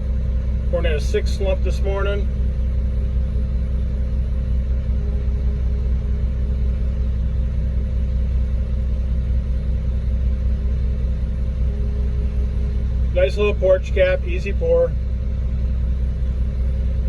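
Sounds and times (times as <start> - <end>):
diesel engine running: 0.0 - 17.0
faint steady hum: 0.0 - 17.0.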